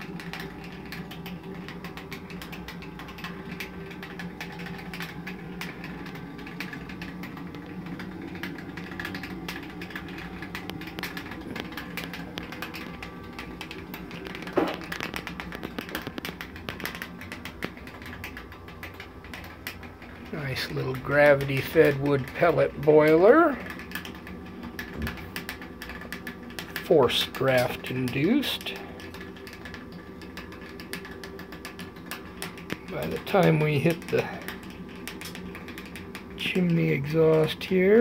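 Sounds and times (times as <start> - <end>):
crackling and ticking: 0.0 - 38.0
fan humming: 0.0 - 38.0
water boiling: 0.0 - 38.0.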